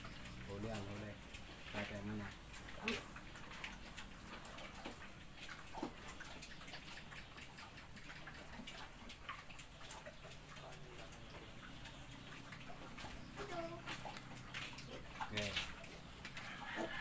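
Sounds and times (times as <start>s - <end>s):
small clicks and ticks: 0.0s - 17.0s.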